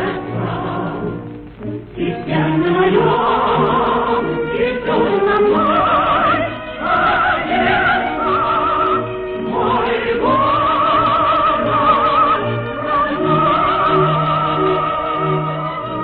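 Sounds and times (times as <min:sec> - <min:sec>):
soprano singing with vibrato: 0:00.0 - 0:01.2, 0:02.0 - 0:16.0.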